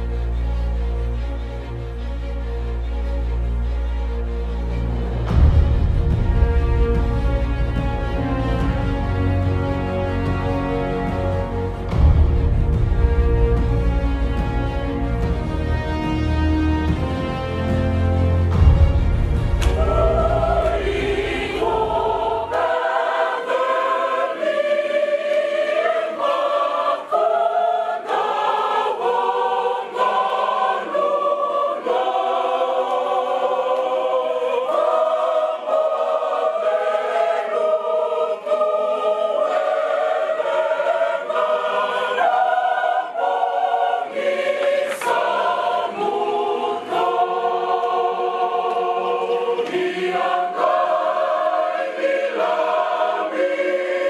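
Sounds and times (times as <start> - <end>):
women's choir singing a carol: 5.2 - 54.0.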